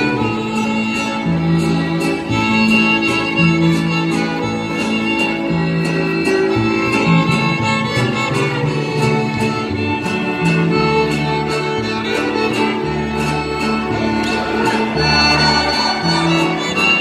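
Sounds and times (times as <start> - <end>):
folk string ensemble dance music: 0.0 - 17.0.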